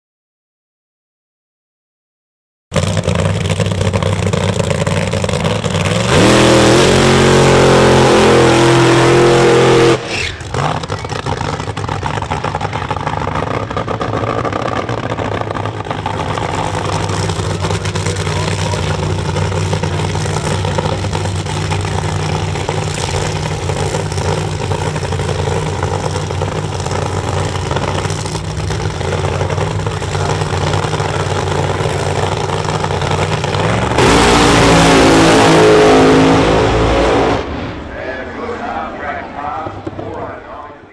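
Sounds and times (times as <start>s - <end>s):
drag racing car engine revving: 2.7s - 40.8s.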